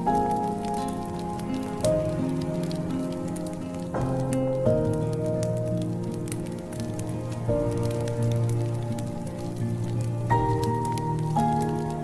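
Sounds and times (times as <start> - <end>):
soft background music chords: 0.0 - 12.0
wood fire crackling: 0.0 - 12.0.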